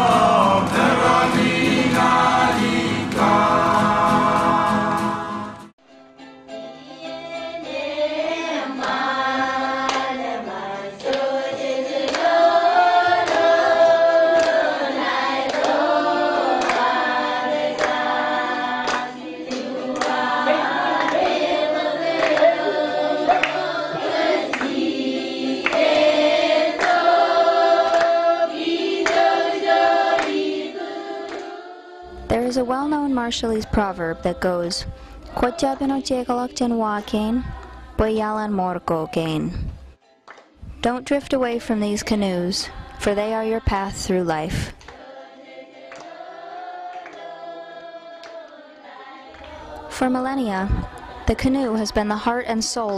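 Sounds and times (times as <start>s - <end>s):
choir singing: 0.0s - 5.7s, 6.9s - 39.4s, 41.7s - 52.9s.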